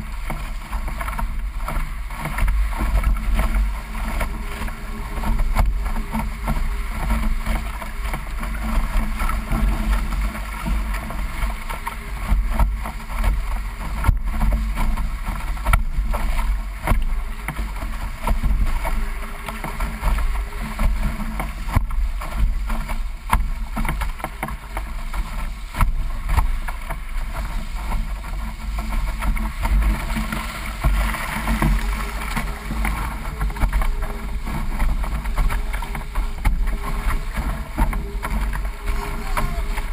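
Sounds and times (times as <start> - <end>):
bow knocking on waves: 0.0 - 39.9
water rushing along a hull: 0.0 - 39.9.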